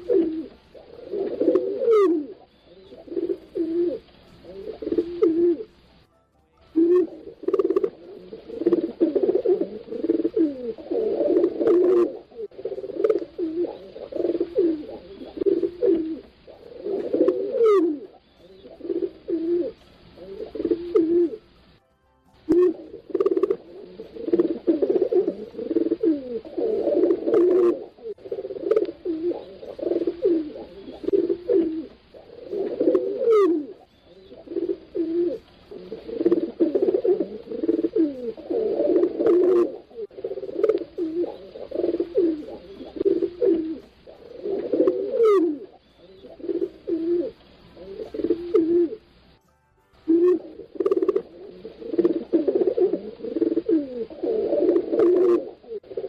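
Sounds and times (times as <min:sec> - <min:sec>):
pigeons cooing: 0:00.0 - 0:05.8, 0:06.8 - 0:21.8, 0:22.5 - 0:49.3, 0:50.1 - 0:56.0.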